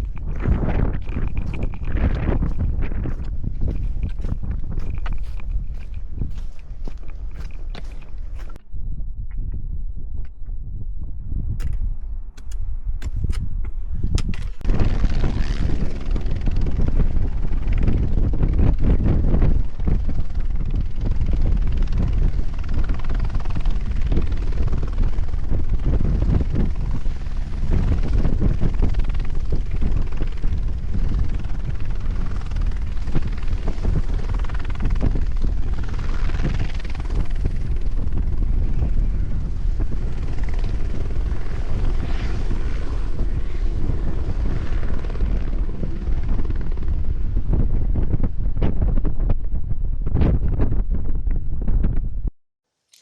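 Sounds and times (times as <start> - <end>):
helicopter rotor beat: 0.0 - 8.7, 11.6 - 49.6.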